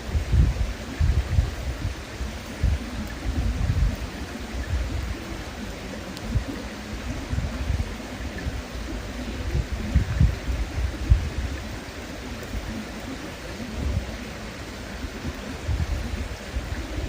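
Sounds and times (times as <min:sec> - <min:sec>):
bonfire crackle: 0:00.0 - 0:17.0
river rushing: 0:00.0 - 0:17.0.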